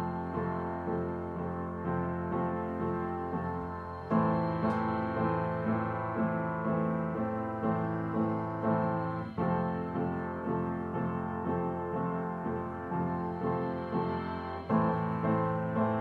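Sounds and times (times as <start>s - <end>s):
piano notes: 0.0s - 16.0s.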